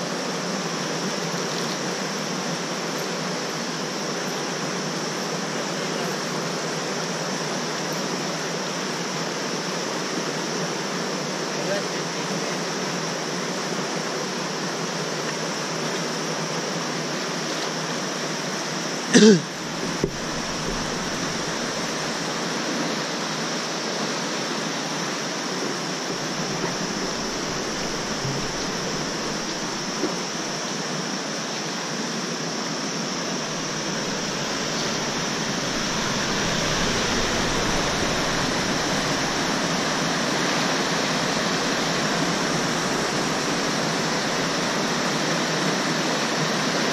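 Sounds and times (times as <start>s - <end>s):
river rushing over boulders: 0.0s - 46.9s.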